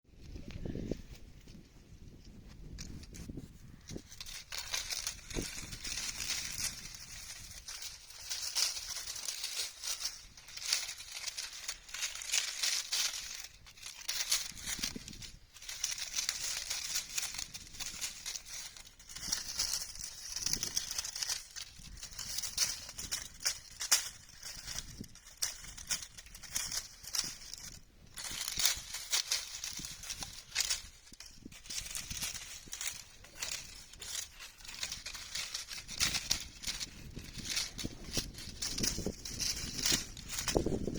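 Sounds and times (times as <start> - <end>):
dry leaves rustling and crackling: 2.6 - 40.9.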